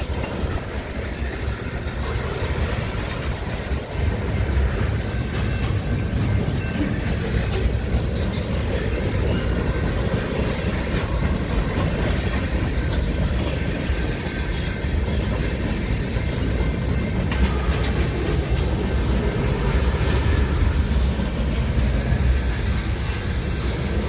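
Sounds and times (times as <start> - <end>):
train rumbling past: 0.0 - 24.0
wheels clicking over rail joints: 0.0 - 24.0.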